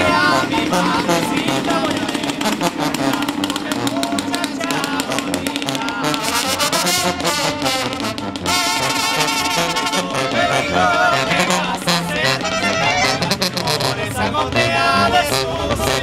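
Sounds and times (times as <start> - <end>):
men singing: 0.0 - 7.7, 8.5 - 16.0
brass band playing: 0.0 - 16.0.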